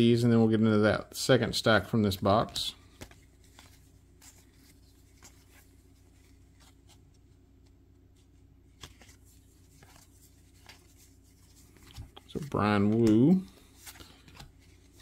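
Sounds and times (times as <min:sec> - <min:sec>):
low room hum: 0:00.0 - 0:15.0
cards clicking and rustling: 0:02.8 - 0:15.0.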